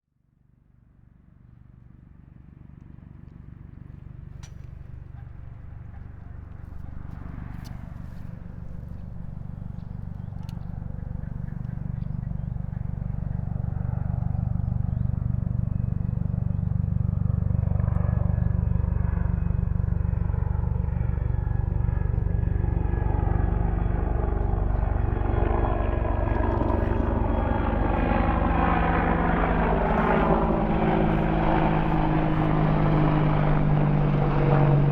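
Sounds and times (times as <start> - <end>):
helicopter rotor beat: 1.6 - 34.9
turbine whine: 3.9 - 34.9.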